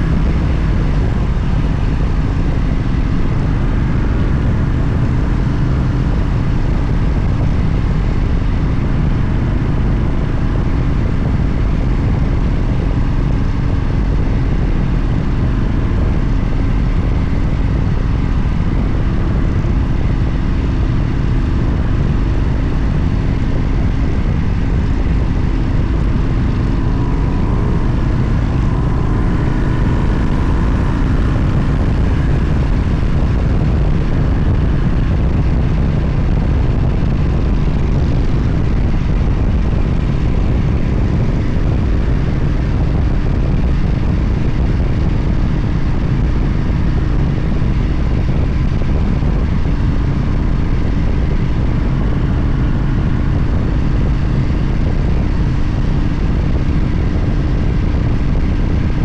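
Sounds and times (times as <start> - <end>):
motorcycle engine rumble: 0.0 - 59.0
wind noise on microphone: 0.0 - 59.0.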